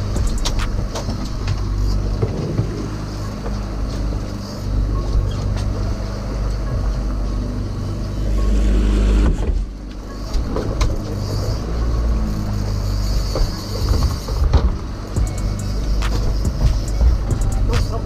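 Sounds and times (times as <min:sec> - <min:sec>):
outboard motor humming: 0:00.0 - 0:18.0.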